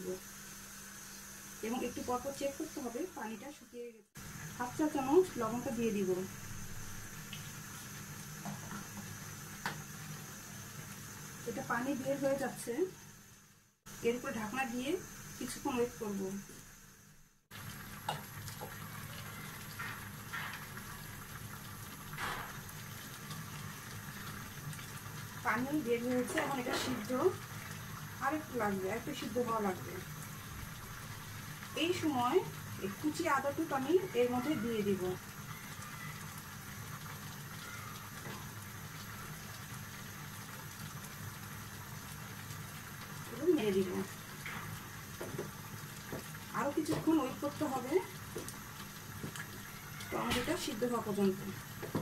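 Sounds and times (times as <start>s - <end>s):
tomatoes bubbling in saucepan: 0.0s - 52.0s.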